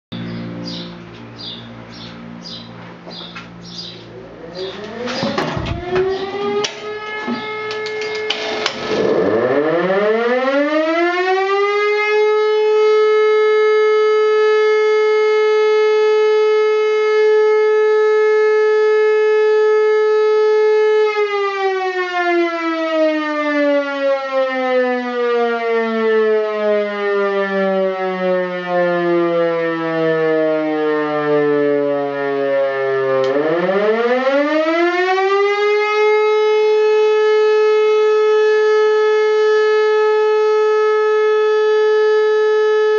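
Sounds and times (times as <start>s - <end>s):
civil defence siren wailing: 0.2s - 42.9s.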